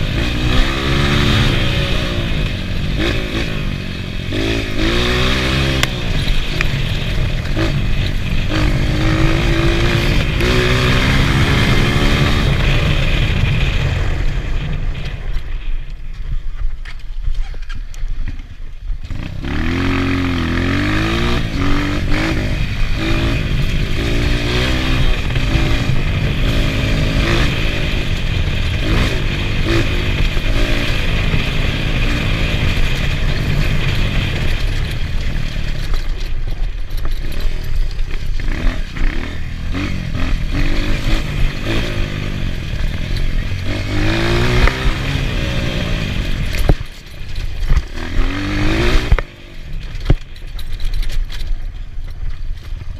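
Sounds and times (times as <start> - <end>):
motorcycle engine revving: 0.0 - 16.5, 18.5 - 52.9.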